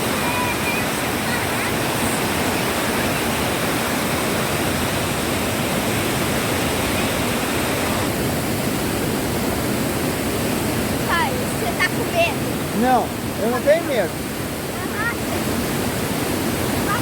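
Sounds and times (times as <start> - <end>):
river whitewater roaring: 0.0 - 17.0.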